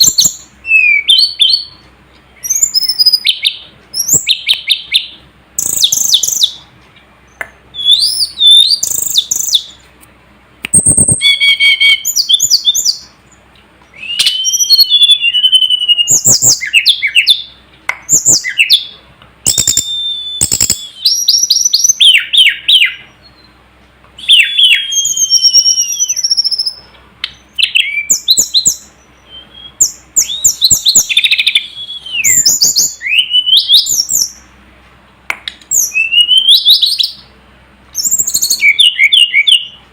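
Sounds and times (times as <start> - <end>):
bird singing whistled trills: 0.0 - 1.8, 2.4 - 6.6, 7.3 - 9.8, 10.7 - 23.6, 24.2 - 34.5, 35.7 - 37.3, 38.0 - 39.8.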